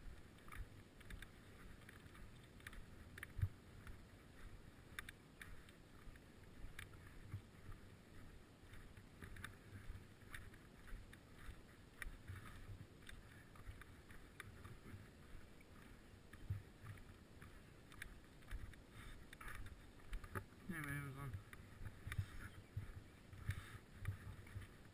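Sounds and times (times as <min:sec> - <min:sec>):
wind and road noise rumble: 0:00.0 - 0:24.9
light clicks and rattles: 0:00.1 - 0:24.9.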